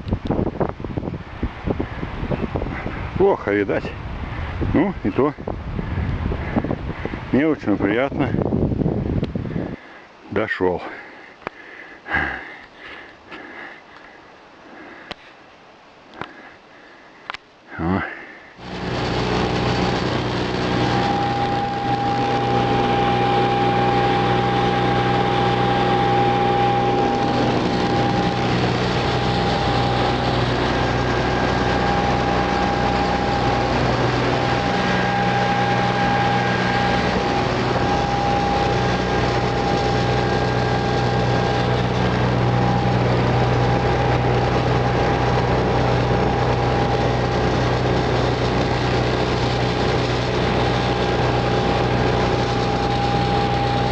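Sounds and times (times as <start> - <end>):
engine running steadily: 0.0 - 10.2, 10.8 - 15.2, 16.0 - 53.9.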